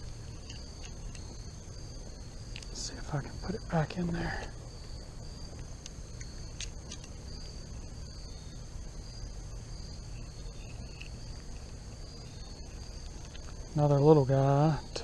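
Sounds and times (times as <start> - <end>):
insect chorus trilling: 0.0 - 15.0
low steady rumble: 0.0 - 15.0.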